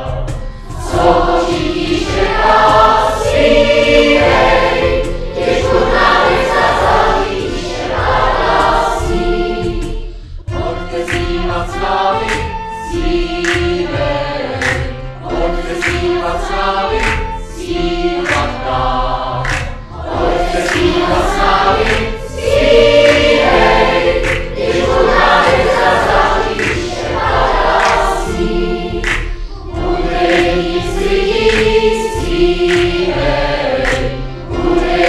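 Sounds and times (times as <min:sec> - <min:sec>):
mixed choir singing a carol: 0:00.0 - 0:35.0.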